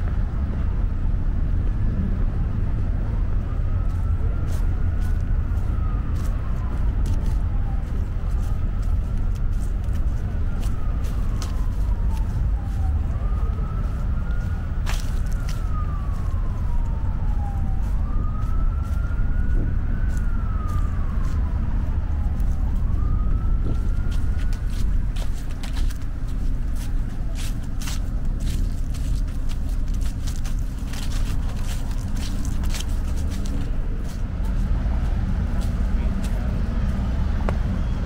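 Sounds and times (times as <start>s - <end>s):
low rumble of street noise: 0.0s - 38.0s
emergency siren wailing: 0.1s - 38.0s.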